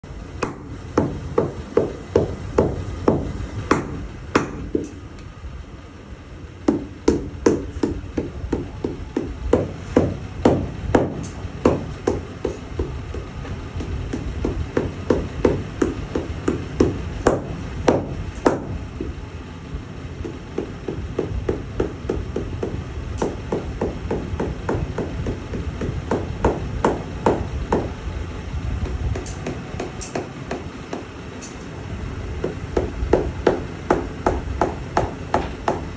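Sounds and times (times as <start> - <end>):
low background rumble: 0.0 - 35.9.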